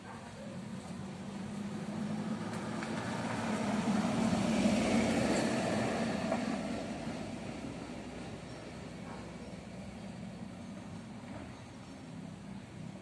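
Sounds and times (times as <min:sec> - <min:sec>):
motor vehicle passing: 0:00.0 - 0:12.6.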